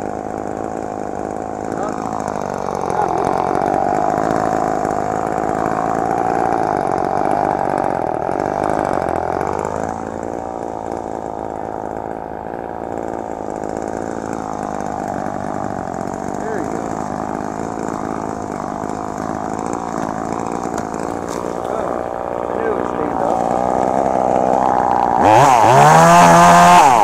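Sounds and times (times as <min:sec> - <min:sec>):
chainsaw engine running: 0:00.0 - 0:27.0.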